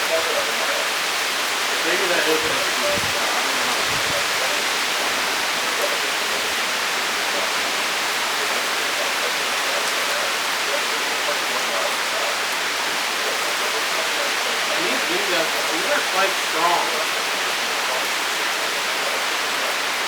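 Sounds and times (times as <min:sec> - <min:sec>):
torrential rain pouring: 0:00.0 - 0:20.0.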